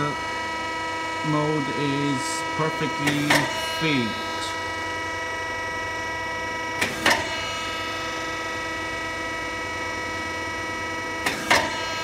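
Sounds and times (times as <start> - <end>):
electrical whine: 0.0 - 12.0.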